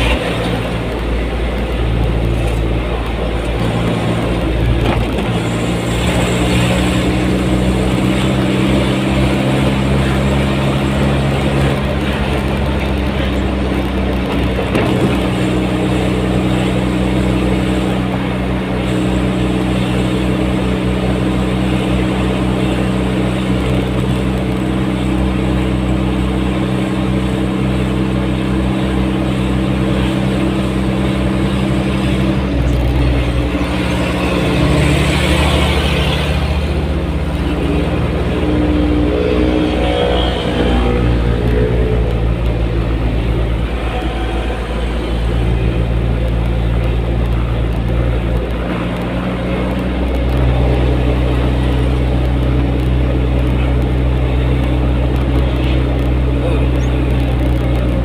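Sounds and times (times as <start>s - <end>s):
tyre and road noise: 0.0s - 58.0s
vehicle engine cruising: 0.0s - 58.0s.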